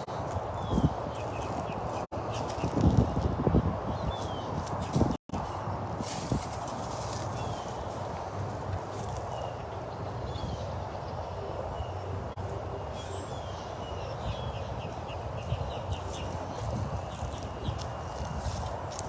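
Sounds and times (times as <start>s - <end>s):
wind noise on microphone: 0.0s - 12.8s, 13.8s - 19.0s.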